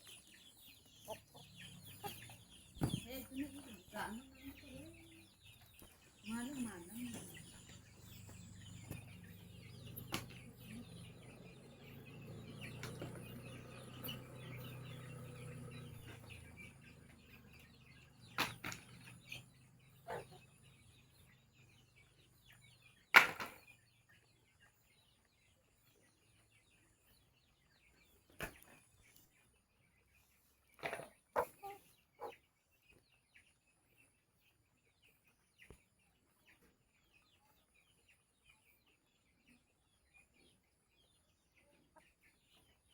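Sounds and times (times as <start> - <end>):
chickens clucking and peeping: 0.0 - 42.9.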